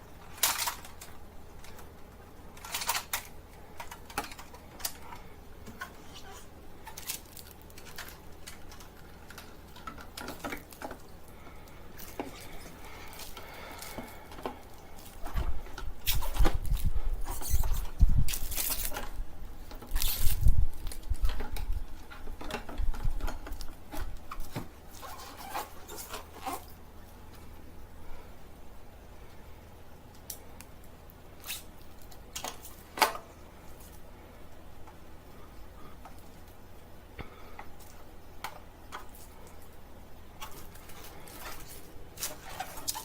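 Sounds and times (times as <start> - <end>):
equipment and packaging handled: 0.0 - 27.6, 30.2 - 34.1, 37.6 - 43.0.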